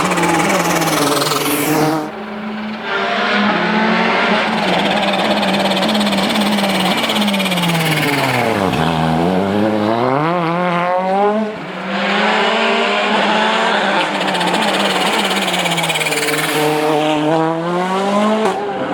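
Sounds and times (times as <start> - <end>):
rally car engine running hard: 0.0 - 18.9.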